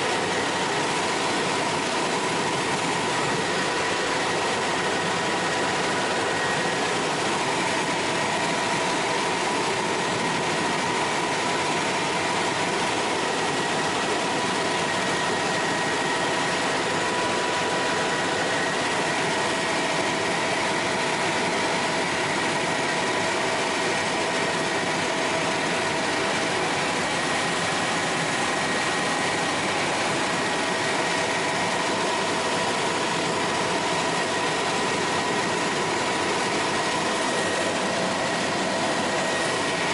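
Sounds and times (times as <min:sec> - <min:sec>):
constant high whine: 0:00.0 - 0:39.9
helicopter turbine and rotor noise: 0:00.0 - 0:39.9.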